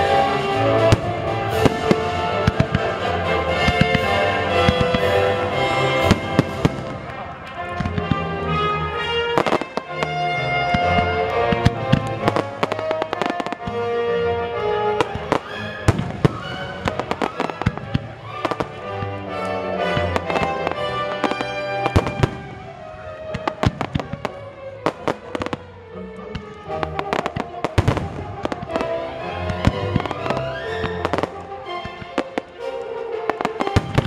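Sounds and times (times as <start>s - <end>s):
fireworks banging: 0.0s - 34.0s
music with sustained notes: 0.0s - 34.0s.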